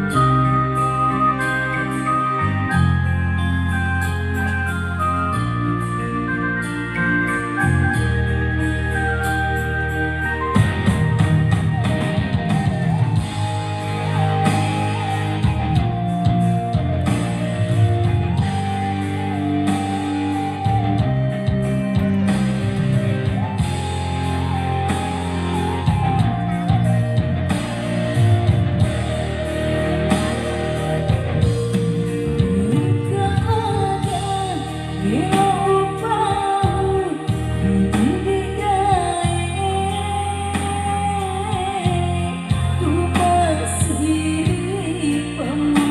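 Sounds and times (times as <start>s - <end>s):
band with guitar and drums: 0.0s - 45.9s.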